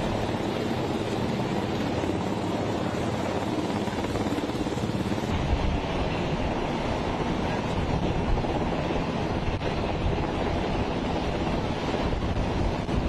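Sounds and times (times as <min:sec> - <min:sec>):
helicopter hovering: 0:00.0 - 0:13.0
wind buffeting microphone: 0:00.0 - 0:13.0.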